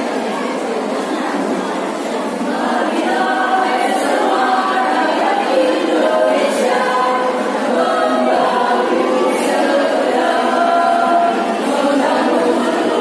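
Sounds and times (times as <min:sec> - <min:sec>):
women's choir singing: 0:02.4 - 0:13.0.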